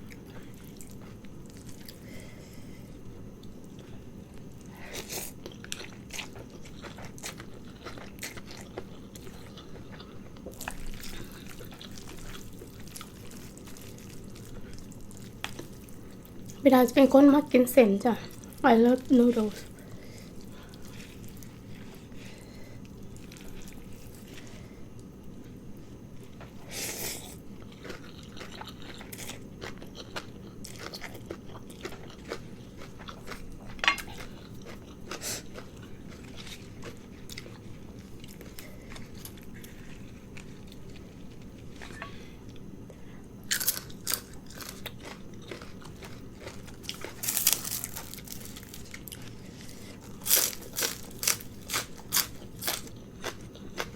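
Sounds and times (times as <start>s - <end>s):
person chewing crunchy food: 0.0s - 16.6s, 18.2s - 53.9s.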